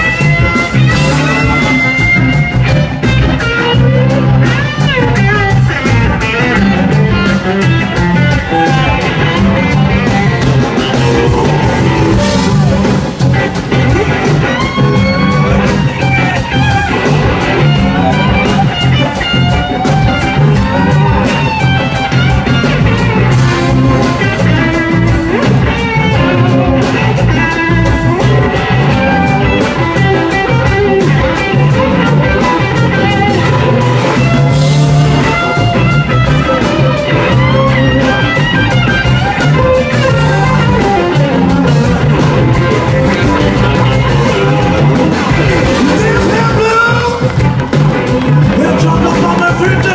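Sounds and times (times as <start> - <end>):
bass: 0.0 - 49.9
drum kit: 0.0 - 49.9
electric guitar: 0.0 - 49.9.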